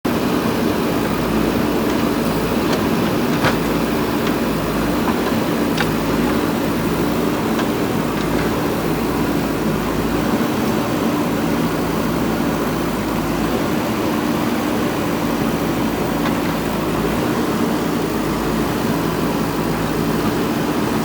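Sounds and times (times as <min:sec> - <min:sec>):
diesel engine running: 0:00.1 - 0:21.0.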